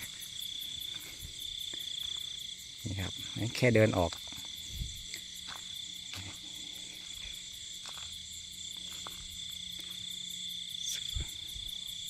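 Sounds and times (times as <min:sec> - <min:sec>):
crickets and insects trilling: 0:00.0 - 0:12.0.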